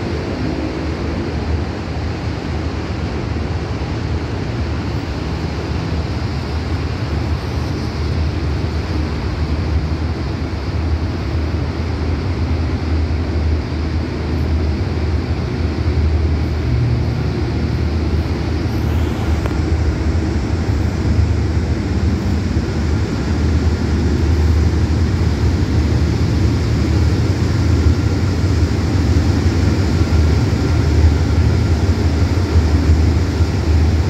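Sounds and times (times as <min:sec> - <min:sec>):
train engine rumble: 0:00.0 - 0:34.0.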